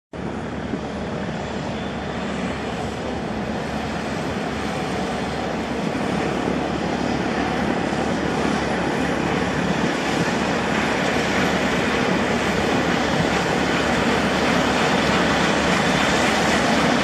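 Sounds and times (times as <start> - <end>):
helicopter running: 0.2 - 17.0
high turbine whine: 0.2 - 17.0.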